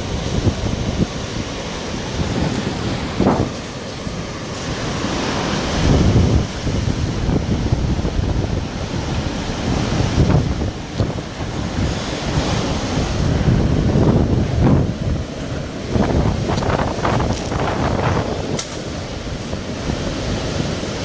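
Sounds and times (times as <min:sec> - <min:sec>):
rumbling wind surges: 0:00.0 - 0:21.0
storm wind buffeting microphone: 0:00.0 - 0:21.0.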